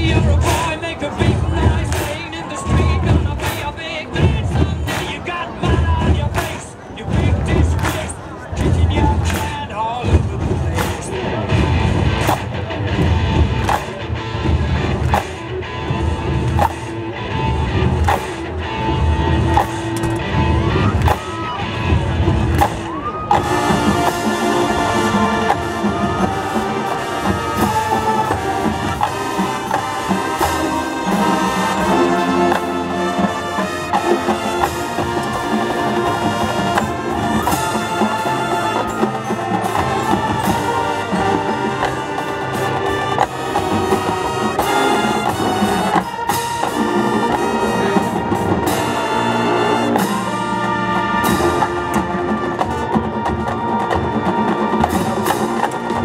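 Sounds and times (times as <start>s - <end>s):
marching drums: 0.0s - 56.0s
brass section chords: 10.6s - 56.0s.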